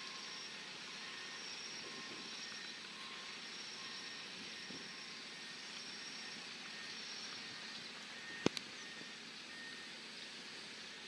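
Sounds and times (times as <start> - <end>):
faint high steady whine: 0.0 - 11.0
outdoor background noise: 0.0 - 11.0.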